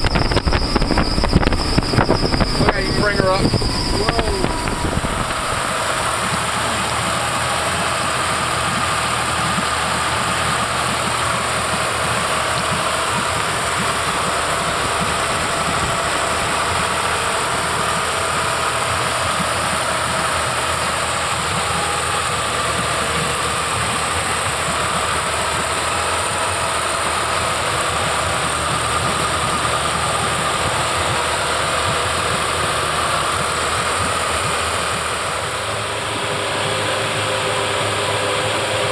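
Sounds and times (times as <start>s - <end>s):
outboard engines running: 0.0s - 38.9s.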